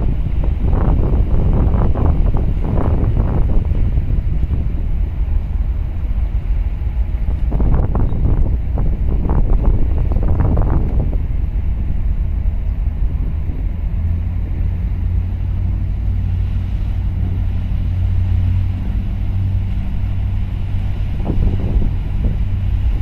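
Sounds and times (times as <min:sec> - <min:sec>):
low engine drone: 0:00.0 - 0:23.0
wind rumbling on microphone: 0:00.0 - 0:23.0.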